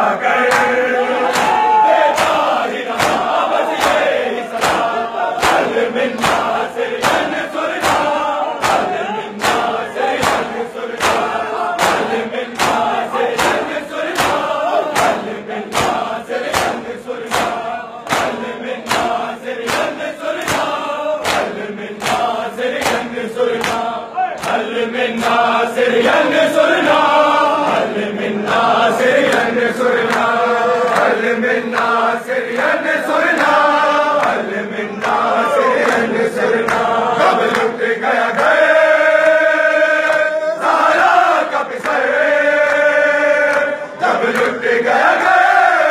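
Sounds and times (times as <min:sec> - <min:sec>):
men chanting a lament in chorus: 0:00.0 - 0:45.9
chest-beating slaps in unison: 0:00.4 - 0:45.6.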